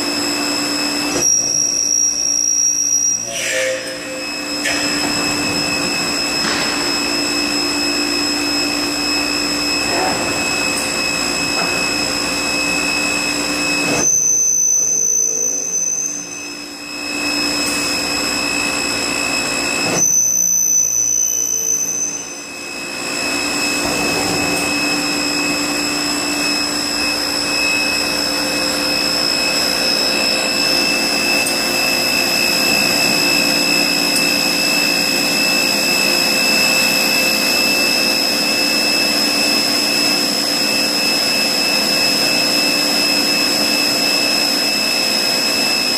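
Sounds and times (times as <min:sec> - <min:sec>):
high-pitched machine whine: 0:00.0 - 0:45.9
machine whirring: 0:00.0 - 0:45.9.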